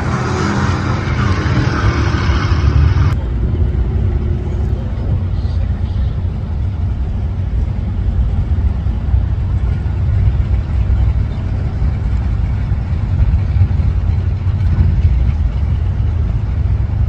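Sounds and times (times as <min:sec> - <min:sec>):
car engines idling: 0:00.0 - 0:17.0.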